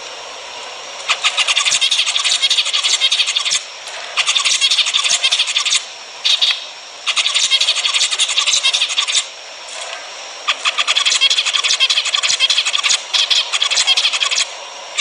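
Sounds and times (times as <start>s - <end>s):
finches singing and chattering: 1.0s - 9.4s, 10.4s - 15.0s.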